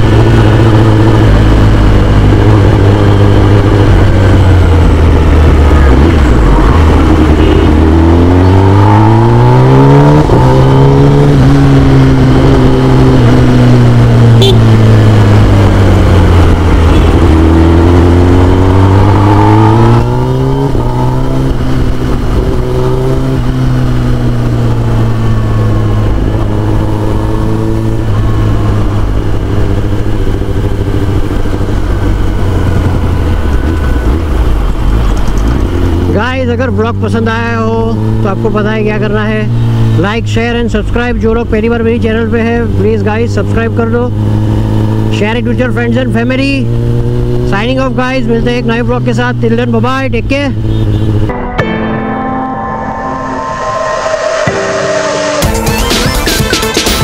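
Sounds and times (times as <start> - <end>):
motorcycle engine revving: 0.0 - 51.4.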